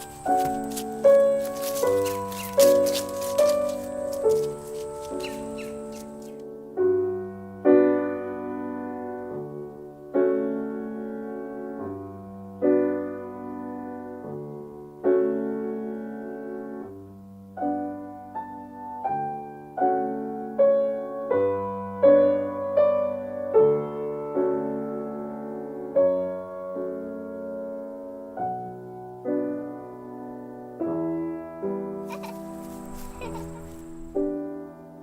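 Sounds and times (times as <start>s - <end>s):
piano music: 0.0s - 17.0s, 17.6s - 35.0s.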